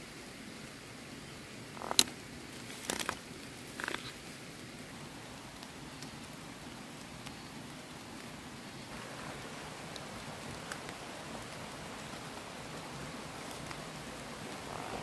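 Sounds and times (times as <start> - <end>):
steady hiss: 0.0 - 15.0
leafy vegetable stems crackling: 1.6 - 15.0.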